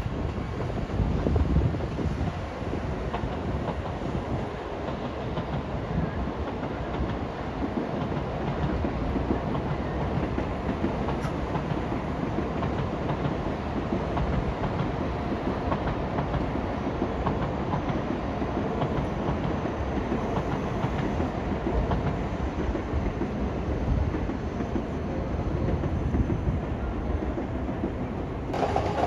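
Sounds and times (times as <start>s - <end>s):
train running on rails: 0.0s - 29.0s.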